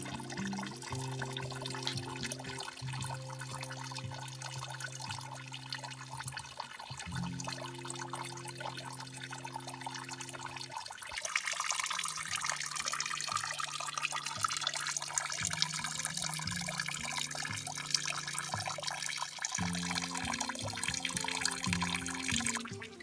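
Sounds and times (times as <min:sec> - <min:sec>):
soft background music: 0:00.0 - 0:23.0
stream water flowing: 0:00.0 - 0:23.0.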